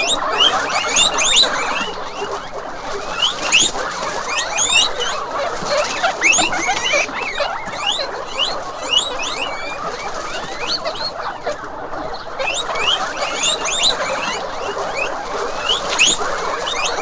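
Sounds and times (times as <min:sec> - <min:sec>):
small animals squeaking: 0:00.0 - 0:17.0.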